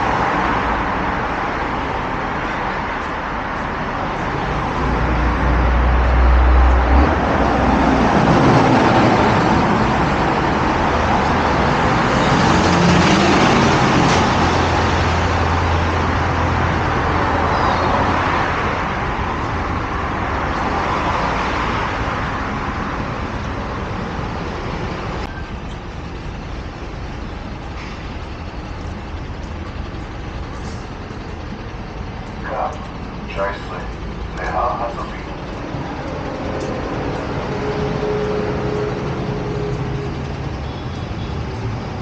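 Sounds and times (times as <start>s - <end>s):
road traffic engine rumble: 0.0s - 42.0s.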